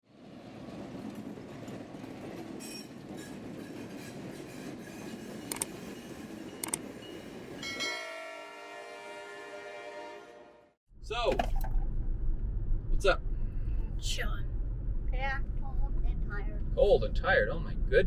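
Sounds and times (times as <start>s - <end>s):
freight train rumble: 0.1s - 18.0s.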